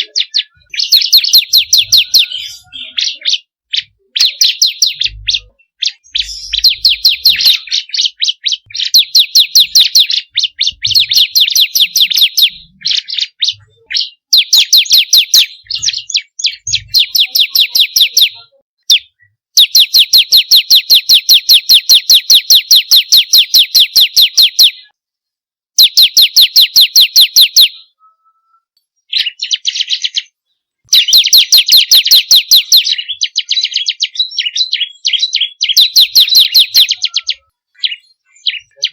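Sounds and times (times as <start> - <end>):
bird singing sharp high notes: 0.0 - 24.9, 30.9 - 38.9.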